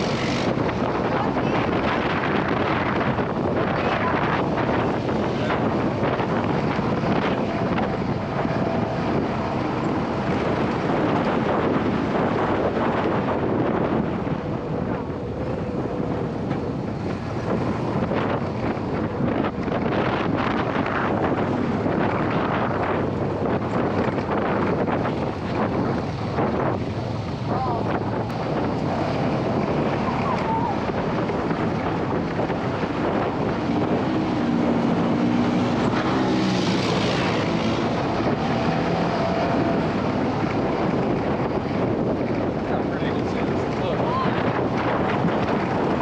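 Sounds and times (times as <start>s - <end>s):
off-road vehicle engine running: 0.0s - 46.0s
wind buffeting microphone: 0.0s - 46.0s.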